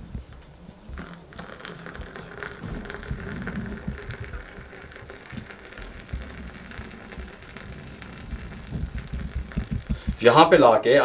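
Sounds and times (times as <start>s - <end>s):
milk pouring into a mug: 0.9s - 10.4s.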